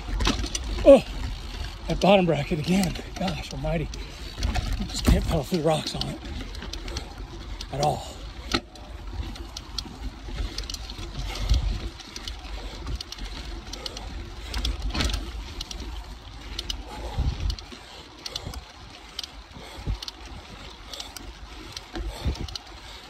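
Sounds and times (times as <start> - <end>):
bike clicks and rattles: 0.0 - 23.0
tyre and wind rumble: 0.0 - 23.0.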